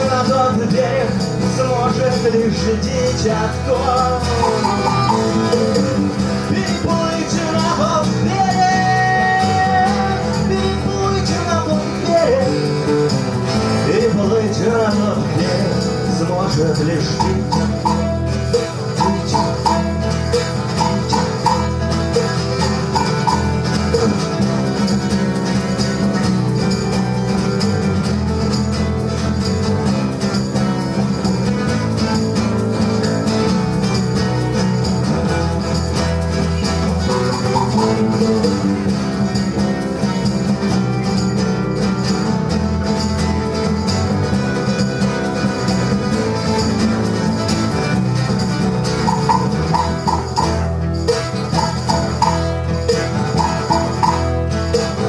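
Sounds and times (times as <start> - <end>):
folk-rock band playing: 0.0 - 55.0.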